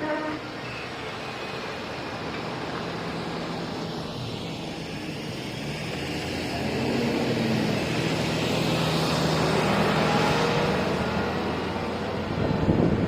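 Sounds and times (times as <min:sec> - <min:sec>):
diesel farm machinery engine: 0:00.0 - 0:13.0.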